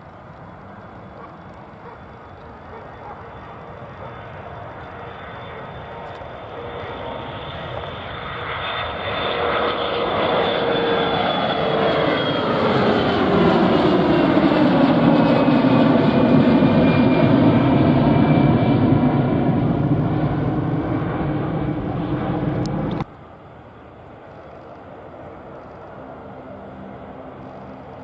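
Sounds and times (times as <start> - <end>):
aircraft engines whining past: 0.0 - 28.0.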